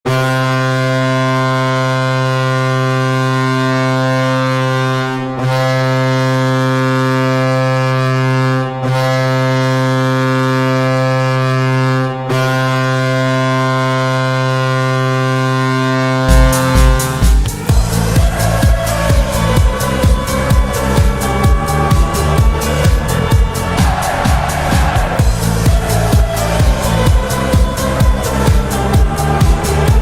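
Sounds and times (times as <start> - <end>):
deep goal horn blasts: 0.1 - 30.0.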